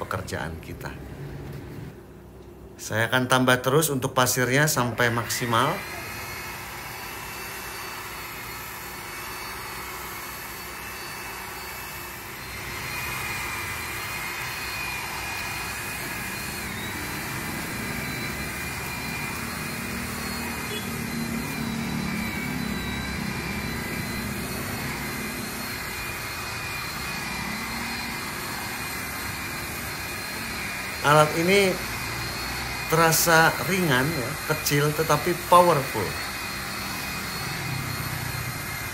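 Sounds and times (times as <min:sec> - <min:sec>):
higher steady whine: 0:03.8 - 0:38.9
paddle mixer motor whining: 0:05.0 - 0:38.9.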